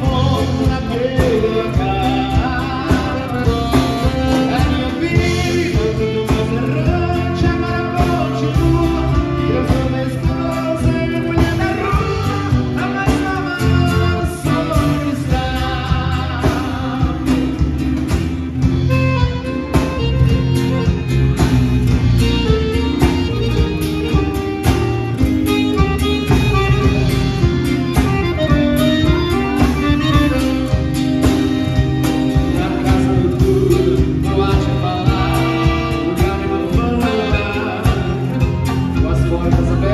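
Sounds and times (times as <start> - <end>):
person singing: 0.0 - 18.1, 25.7 - 39.9
plucked guitar: 0.0 - 39.9
steady beat: 0.0 - 39.9.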